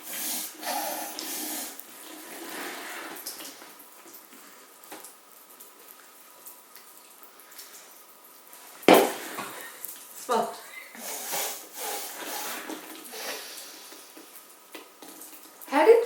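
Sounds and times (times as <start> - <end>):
soft drink trickling and splashing: 0.0 - 16.0.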